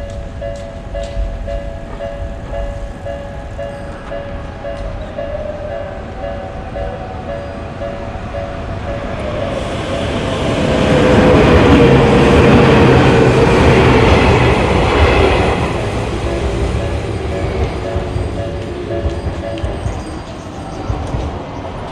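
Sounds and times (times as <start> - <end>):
electric train passing: 0.0 - 21.9.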